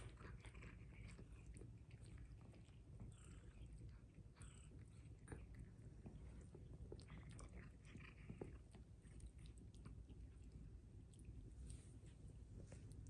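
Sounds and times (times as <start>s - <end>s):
faint soft clicks and rustles: 0.0s - 13.0s
low room hum: 0.0s - 13.0s.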